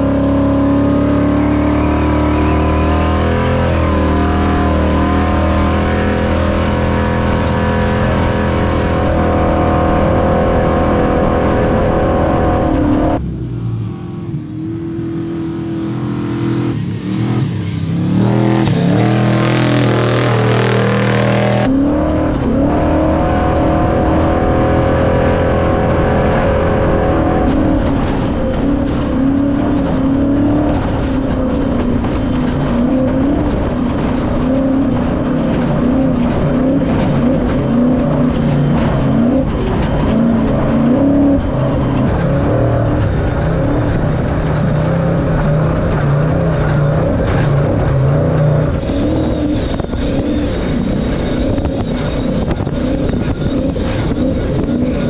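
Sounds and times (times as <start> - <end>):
rattle and wind rush: 0.0 - 13.8, 14.6 - 55.0
truck engine running hard: 0.0 - 55.0
truck passing by: 0.0 - 55.0.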